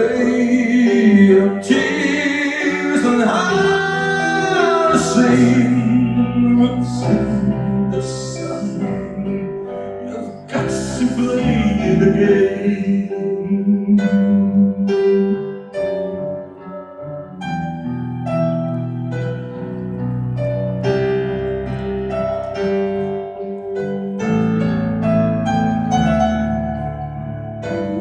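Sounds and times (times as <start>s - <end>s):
slow piano melody: 0.0s - 28.0s.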